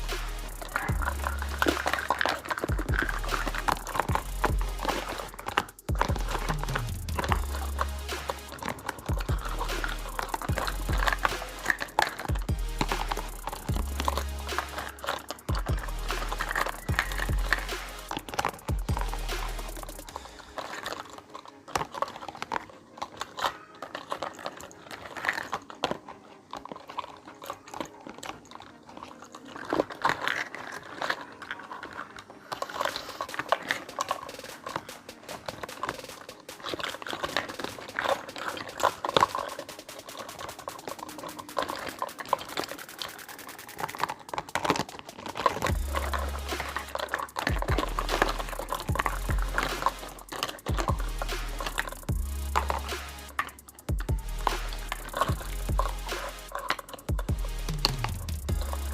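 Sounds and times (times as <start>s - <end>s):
toy pieces clicking and rattling: 0.0s - 58.9s.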